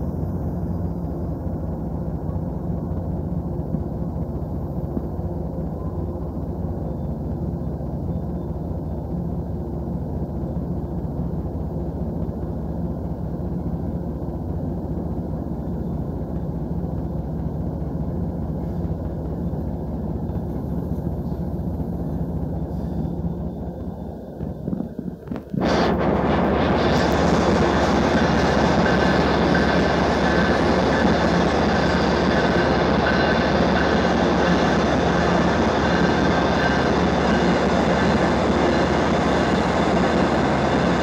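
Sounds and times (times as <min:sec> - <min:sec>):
faint drone: 0:00.0 - 0:41.0
train coaches rumbling past: 0:00.0 - 0:41.0.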